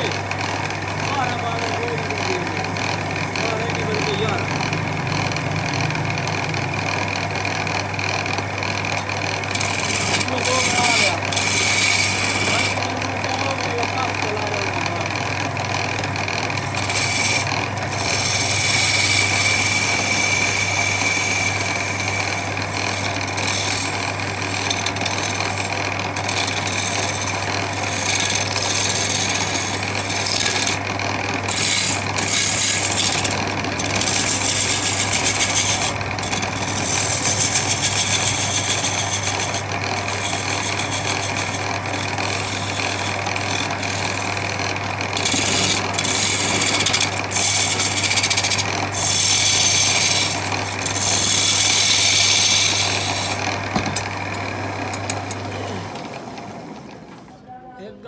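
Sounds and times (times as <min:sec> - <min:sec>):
power tool grinding wood: 0:00.0 - 0:57.3.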